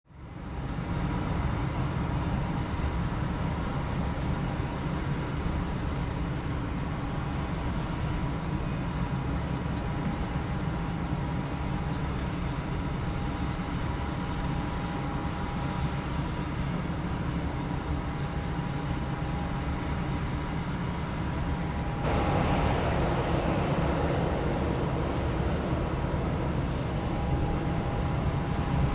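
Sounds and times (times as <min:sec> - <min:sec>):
jet engines rumbling: 0:00.2 - 0:28.9.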